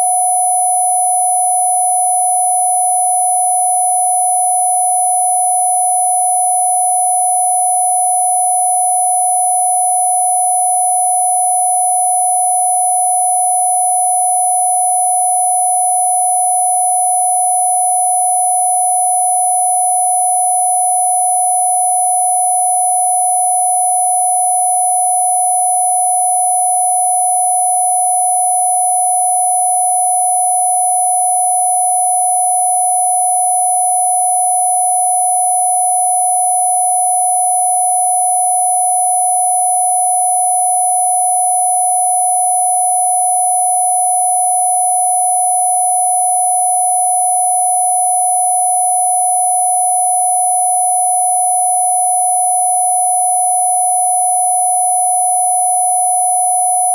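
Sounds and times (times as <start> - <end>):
steady sine tone: 0.0 - 56.9.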